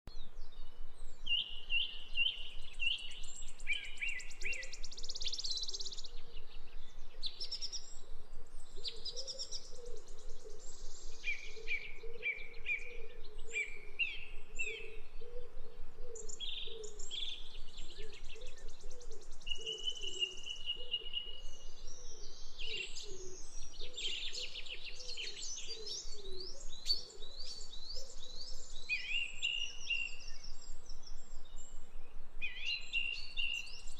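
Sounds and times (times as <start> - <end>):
songbirds singing and chirping: 0.1 - 33.9.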